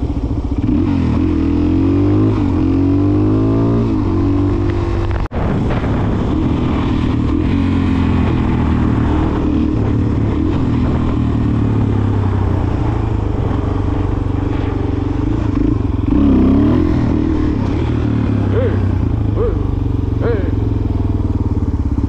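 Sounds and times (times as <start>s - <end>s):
motorcycle engine running: 0.0s - 22.0s
wind and road rush: 0.0s - 22.0s.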